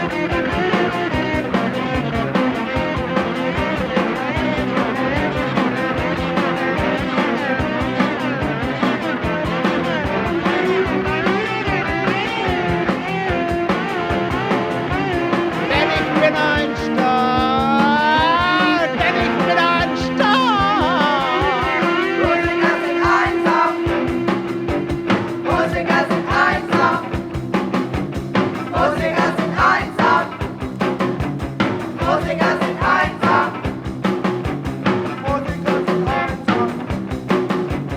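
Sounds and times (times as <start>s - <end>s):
punk rock band music: 0.0s - 37.9s.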